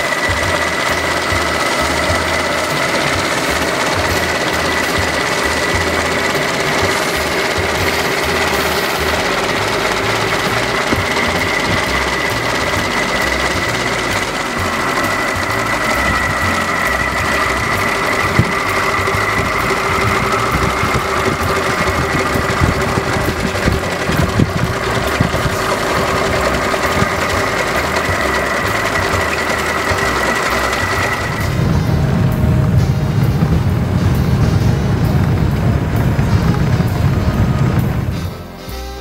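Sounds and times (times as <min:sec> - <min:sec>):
car engine idling with clatter: 0:00.0 - 0:38.8
high whine: 0:00.0 - 0:39.0.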